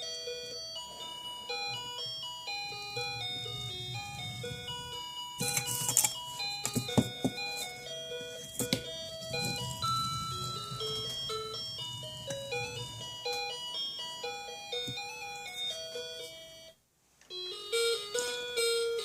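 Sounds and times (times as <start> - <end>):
tinkly electronic melody: 0.0 - 19.0.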